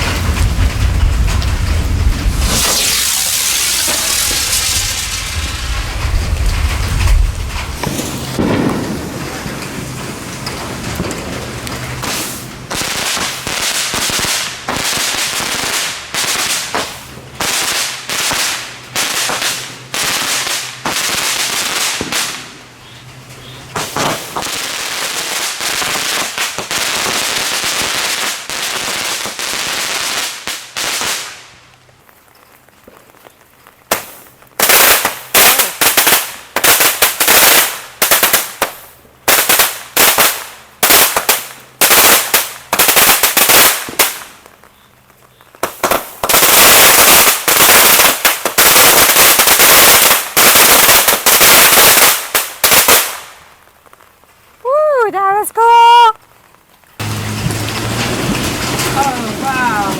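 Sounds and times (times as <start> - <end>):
sharp crackling firework bangs: 0.0 - 54.2, 55.8 - 59.9
fireworks hissing and crackling: 0.0 - 59.9.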